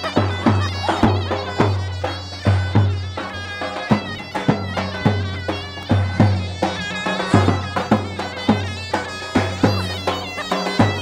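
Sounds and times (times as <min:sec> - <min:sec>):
shrill reed pipe melody: 0:00.0 - 0:11.0.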